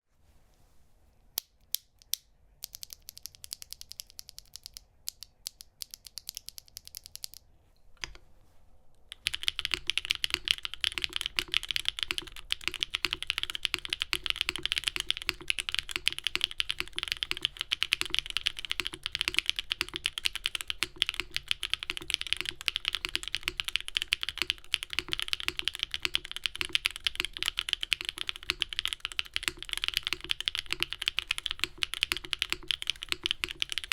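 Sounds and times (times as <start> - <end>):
typing on mechanical keyboard: 2.6 - 7.4, 9.1 - 33.9.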